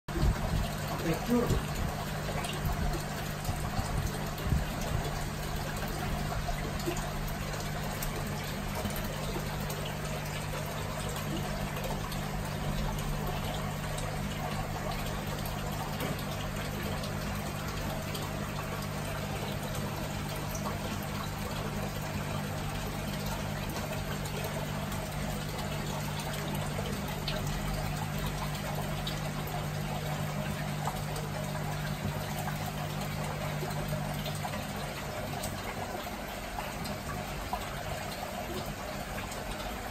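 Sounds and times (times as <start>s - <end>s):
aquarium water bubbling: 0.1s - 39.9s
low steady hum: 0.1s - 39.9s.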